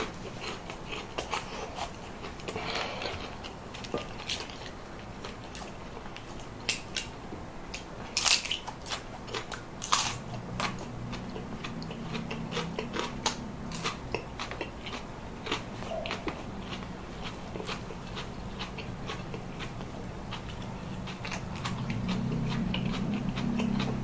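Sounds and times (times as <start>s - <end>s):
biting and chewing crunches: 0.0s - 24.0s
low steady hum: 0.0s - 24.0s.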